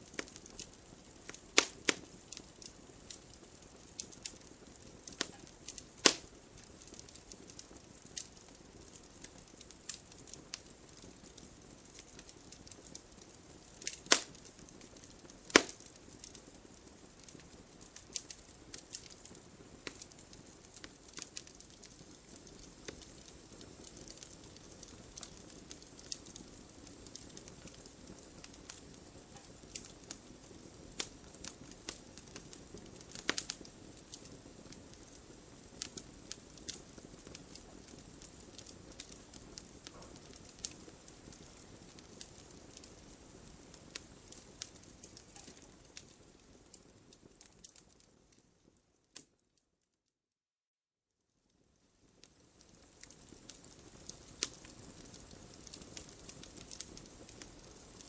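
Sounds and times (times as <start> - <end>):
wood fire crackling and popping: 0.0 - 49.4, 51.6 - 58.0
soft steady hiss: 0.0 - 50.0, 51.2 - 58.0.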